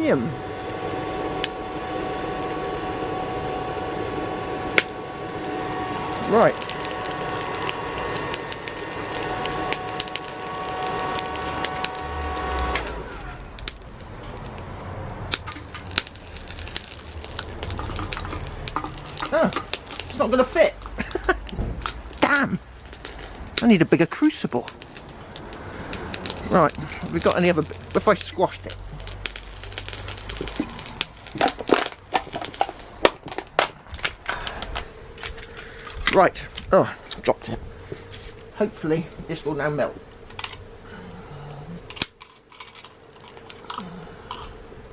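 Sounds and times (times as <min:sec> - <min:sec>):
furnace whine: 0:00.0 - 0:44.9
aluminium scrap crinkling: 0:00.4 - 0:03.9, 0:04.5 - 0:36.8, 0:41.8 - 0:44.7
crackling and sharp clicks: 0:00.6 - 0:02.8, 0:04.7 - 0:37.3, 0:41.9 - 0:44.6.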